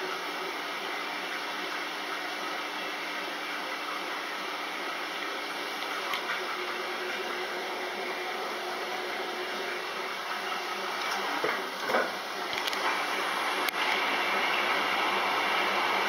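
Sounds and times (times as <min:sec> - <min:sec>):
laundry machines whirring: 0:00.0 - 0:16.0.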